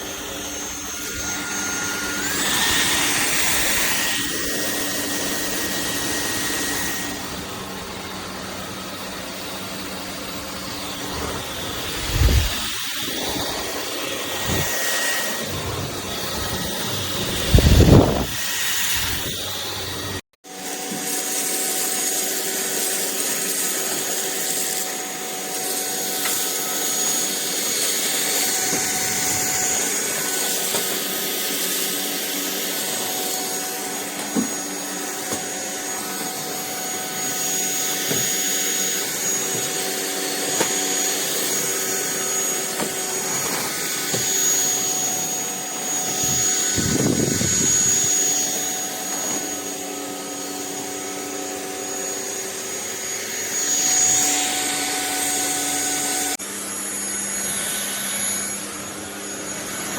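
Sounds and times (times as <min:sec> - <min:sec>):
vacuum cleaner motor whine: 0:00.0 - 0:59.9.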